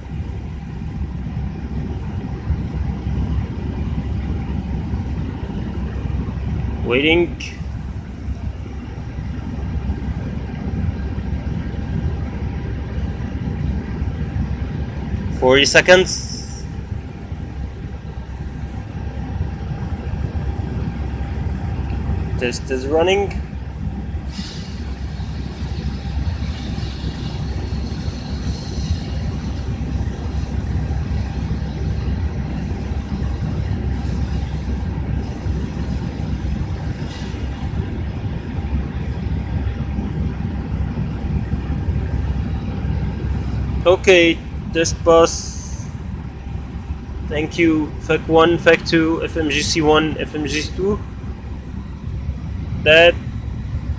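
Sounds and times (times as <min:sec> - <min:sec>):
cockpit low rumble: 0:00.0 - 0:53.9.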